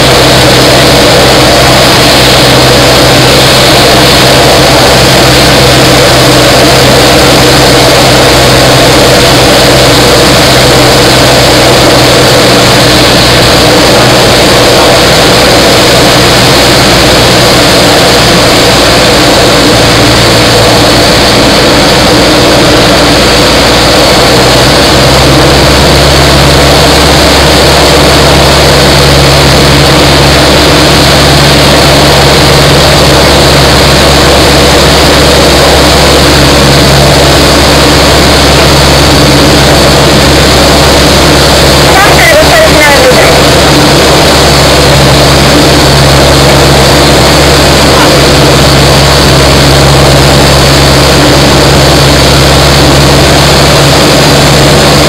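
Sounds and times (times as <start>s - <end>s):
airflow hiss: 0.0s - 55.0s
propeller airplane engine drone: 0.0s - 55.0s.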